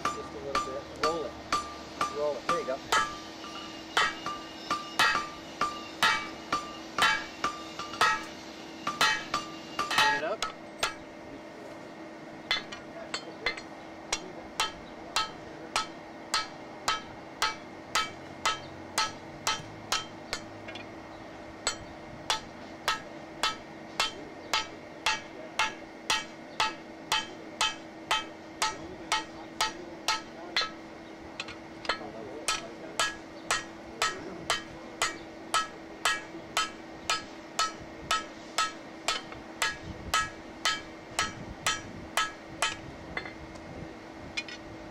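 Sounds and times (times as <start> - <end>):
hammer ringing on steel anvil: 0.0 - 11.0, 12.5 - 20.9, 21.7 - 43.4.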